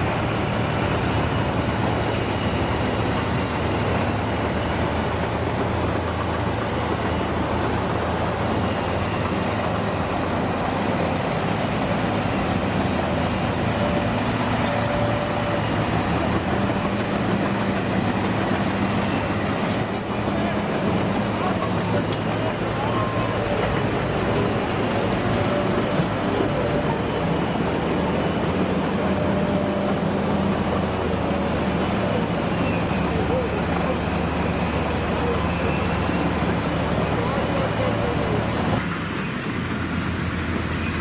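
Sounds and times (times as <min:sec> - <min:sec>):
heavy vehicle engine rumbling: 0:00.0 - 0:41.0.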